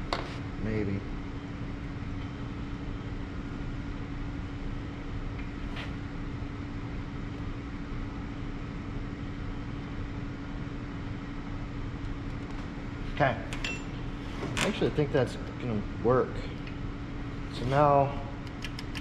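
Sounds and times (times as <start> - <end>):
low workshop hum: 0.0 - 19.0.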